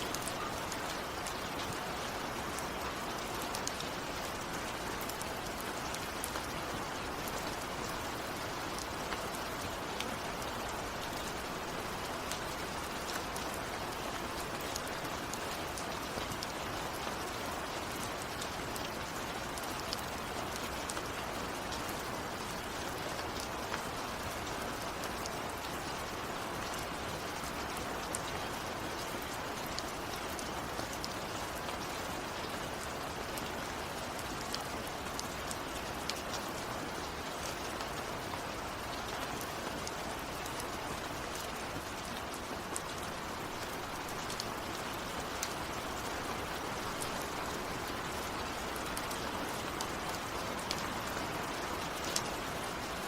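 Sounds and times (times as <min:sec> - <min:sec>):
heavy rain falling: 0:00.0 - 0:53.0
raindrops pattering on a surface: 0:00.0 - 0:53.0.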